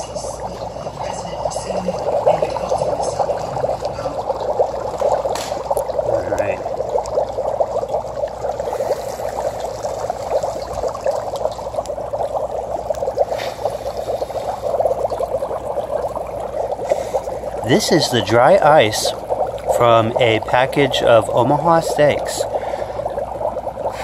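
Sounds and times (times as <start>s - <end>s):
crackle of bursting bubbles: 0.0s - 24.0s
dry ice bubbling in water: 0.0s - 24.0s.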